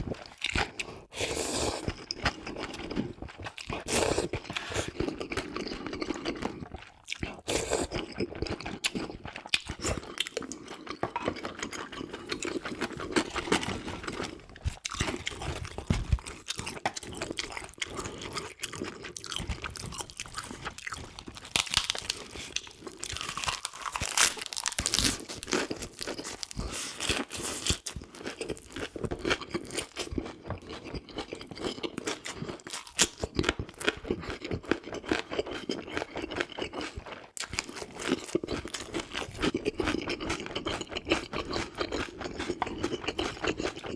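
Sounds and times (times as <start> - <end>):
food crunching in mouth: 0.0 - 43.9
wet chewing: 1.8 - 43.9.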